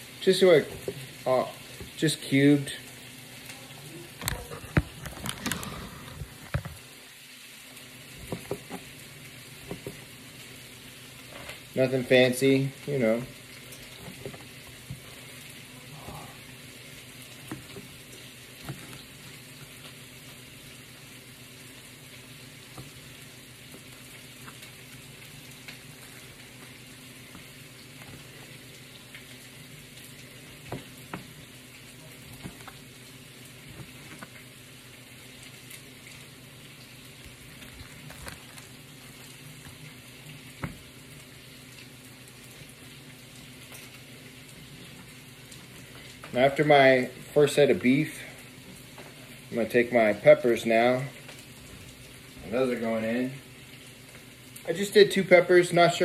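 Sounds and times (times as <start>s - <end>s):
onions sizzling in a pot: 0.0s - 56.0s.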